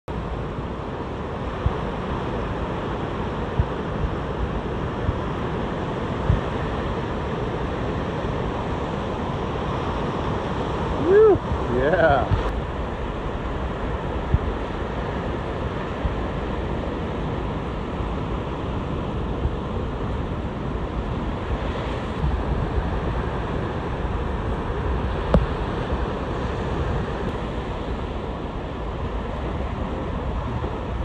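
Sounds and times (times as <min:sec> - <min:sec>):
ocean surf breaking: 0:00.1 - 0:31.0
wind buffeting microphone: 0:00.1 - 0:31.0.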